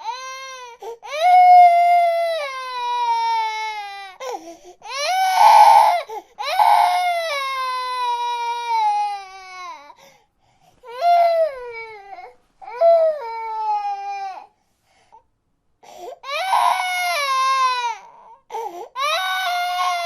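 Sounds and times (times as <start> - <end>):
baby crying: 0.0 - 10.0, 10.8 - 14.5, 16.1 - 20.0.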